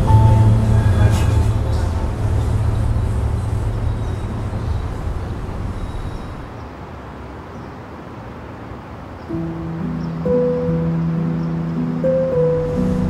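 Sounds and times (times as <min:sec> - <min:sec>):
passing vehicle rumble: 0:00.0 - 0:07.4, 0:09.4 - 0:13.0.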